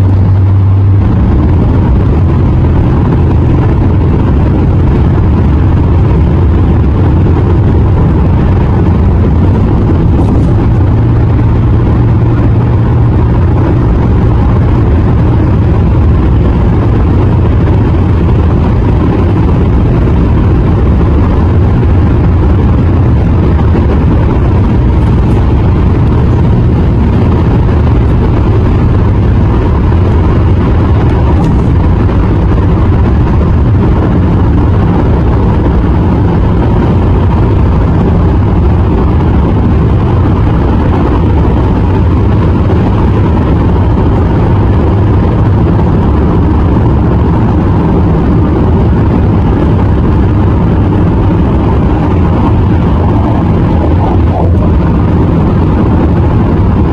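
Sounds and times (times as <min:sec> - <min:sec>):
car road noise at highway speed: 0:00.0 - 0:56.9.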